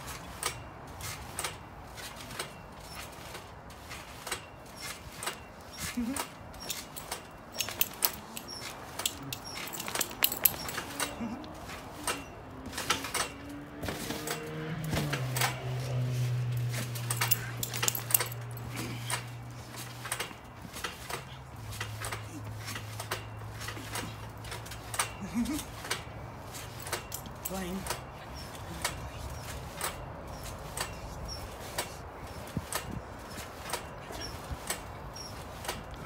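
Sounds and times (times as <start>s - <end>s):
trampoline springs jingling: 0.0s - 36.0s.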